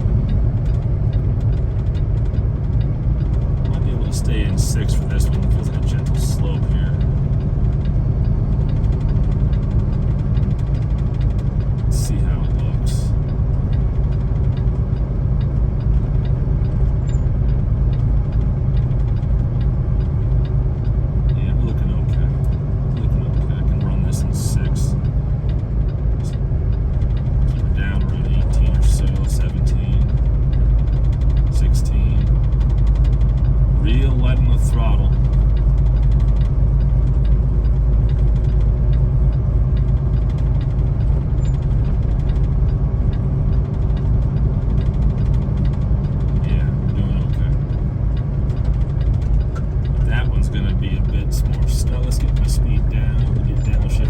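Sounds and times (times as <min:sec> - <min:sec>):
truck engine rumble: 0:00.0 - 0:54.0
light repeating clicks: 0:00.1 - 0:54.0
faint ticks of clatter: 0:00.3 - 0:12.4, 0:13.3 - 0:24.0, 0:24.6 - 0:53.9.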